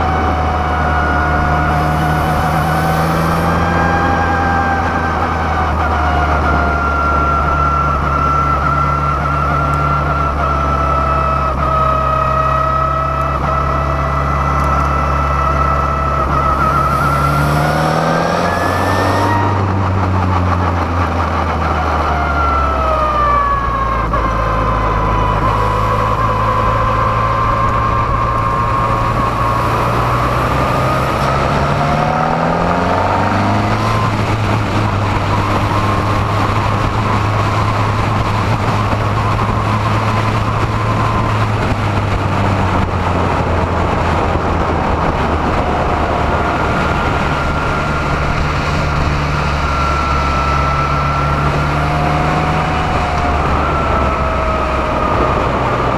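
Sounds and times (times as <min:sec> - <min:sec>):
race car engine running: 0:00.0 - 0:55.9
wind noise: 0:00.0 - 0:55.9.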